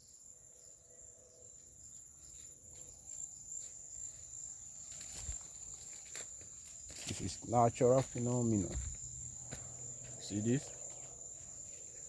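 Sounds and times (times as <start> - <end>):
faint outdoor background noise: 0.0 - 12.0
insects trilling: 0.0 - 12.0.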